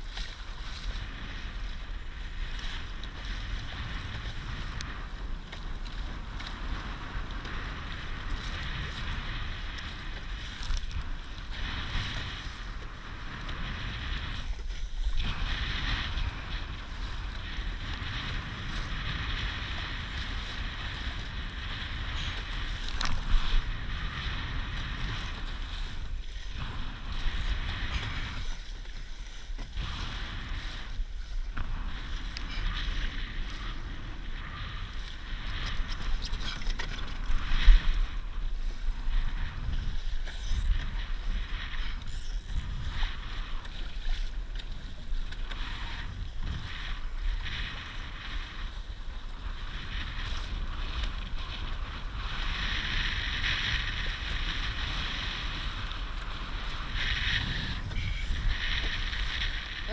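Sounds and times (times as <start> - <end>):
water rushing along hull: 0.0 - 59.9
wind buffeting microphone: 0.0 - 59.9.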